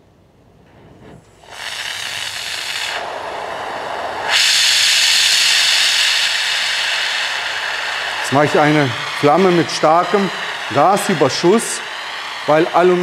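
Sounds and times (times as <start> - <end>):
brazing torch flame hissing: 0.8 - 13.0.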